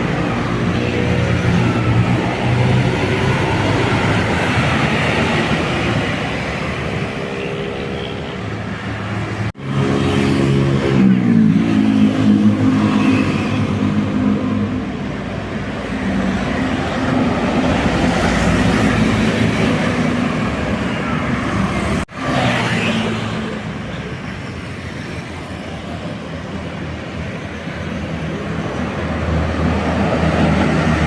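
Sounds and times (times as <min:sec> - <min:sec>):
buses passing: 0:00.0 - 0:31.0
road traffic: 0:00.0 - 0:31.0.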